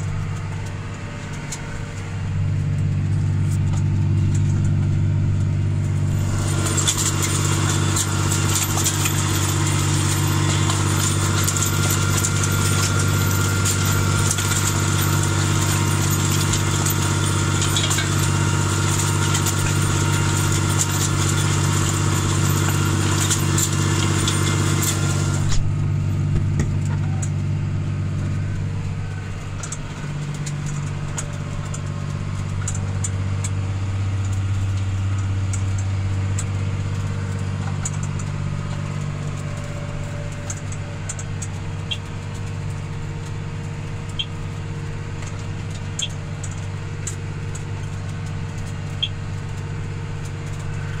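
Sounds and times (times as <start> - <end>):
tractor engine running under load: 0.0 - 51.0.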